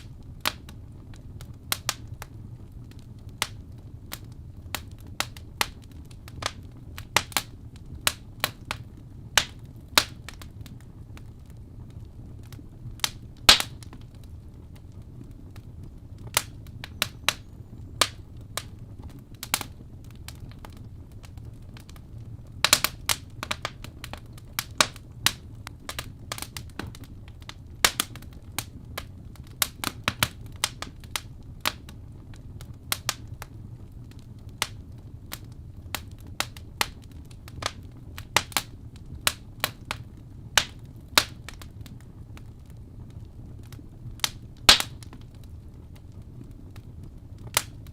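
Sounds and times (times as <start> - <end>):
burning logs popping and snapping: 0.0 - 47.9
low rumble of flames: 0.0 - 47.9.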